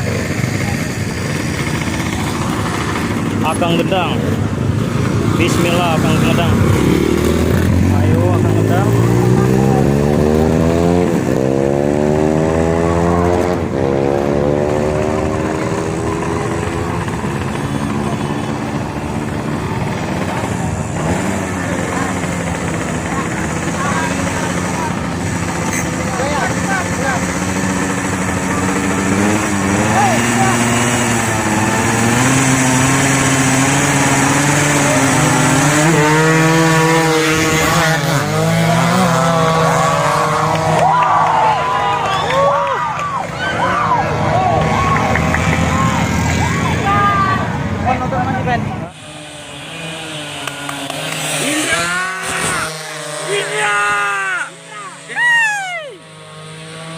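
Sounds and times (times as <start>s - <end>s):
motorcycles accelerating hard: 0.0s - 56.9s.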